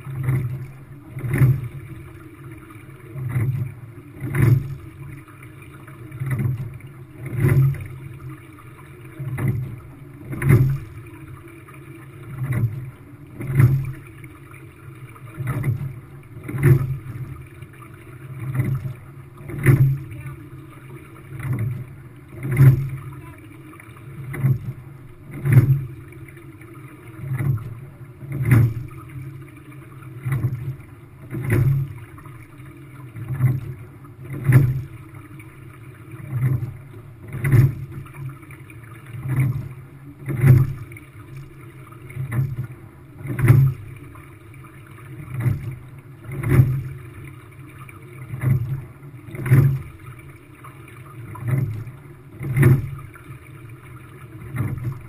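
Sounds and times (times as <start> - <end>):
water rushing along hull: 0.0 - 55.0.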